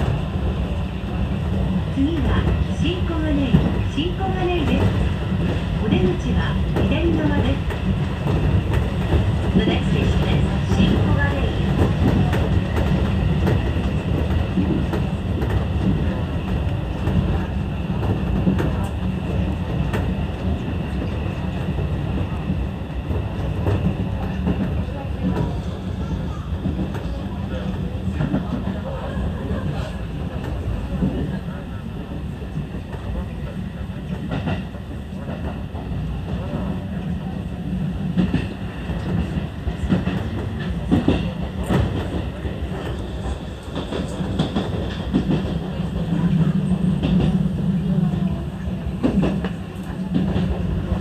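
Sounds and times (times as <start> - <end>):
train rumbling on track: 0.0 - 51.0.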